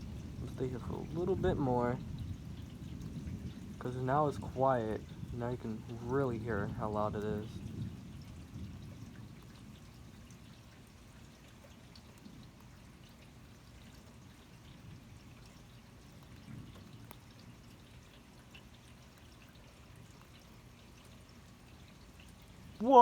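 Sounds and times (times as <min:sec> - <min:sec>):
faint steady rain: 0:00.0 - 0:23.0
small drip ticks: 0:00.0 - 0:23.0.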